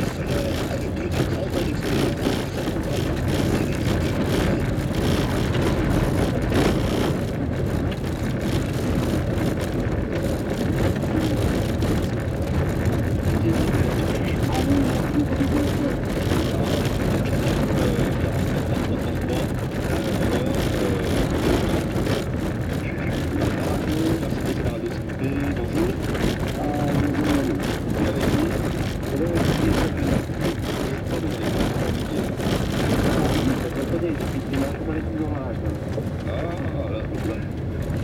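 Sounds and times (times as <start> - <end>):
car engine drone: 0.0 - 38.0
tyres rumbling on gravel: 0.0 - 38.0.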